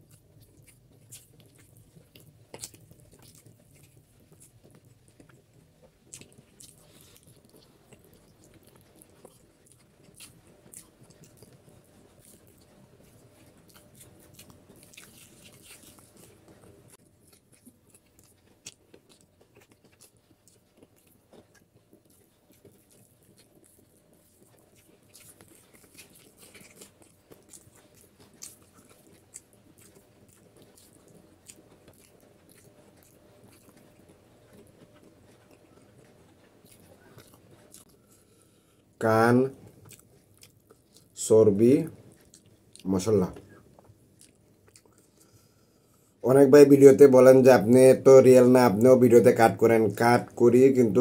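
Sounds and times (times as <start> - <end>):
wet chewing and lip smacks: 0.0 - 39.0, 39.6 - 46.2.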